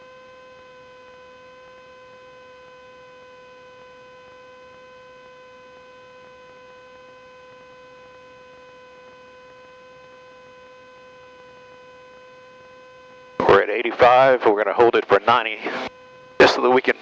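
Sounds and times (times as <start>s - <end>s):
electrical whine on intercom: 0.1s - 17.0s.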